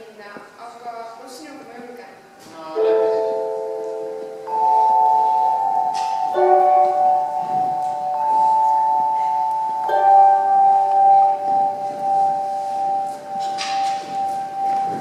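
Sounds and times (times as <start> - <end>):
slow music with ringing chords: 2.7 - 15.0.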